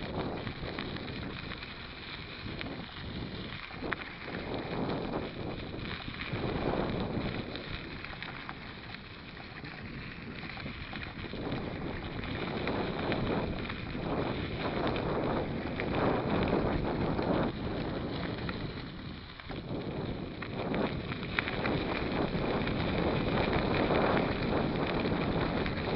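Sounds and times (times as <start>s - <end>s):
bike clicks and rattles: 0.0s - 25.9s
tyres rolling on dirt track: 0.0s - 25.9s
wind buffeting microphone: 0.0s - 25.9s.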